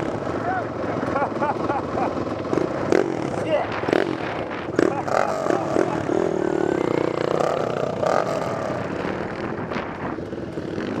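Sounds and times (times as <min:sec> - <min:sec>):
dirt bike engines idling and revving: 0:00.0 - 0:11.0.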